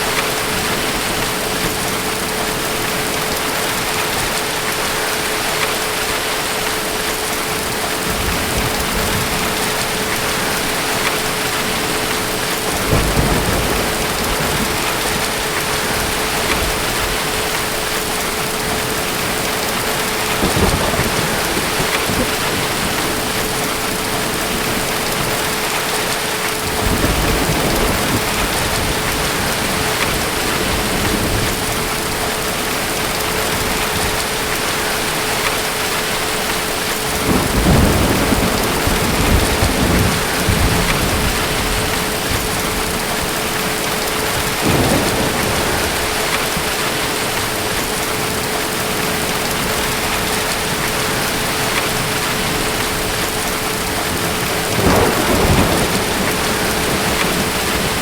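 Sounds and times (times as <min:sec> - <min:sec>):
heavy rain: 0:00.0 - 0:58.0
distant thunder rumbling: 0:07.6 - 0:58.0.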